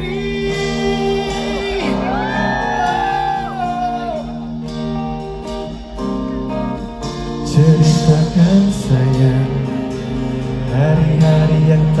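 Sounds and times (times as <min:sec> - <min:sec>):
electric guitar: 0:00.0 - 0:12.0
live pop-rock band playing: 0:00.0 - 0:12.0.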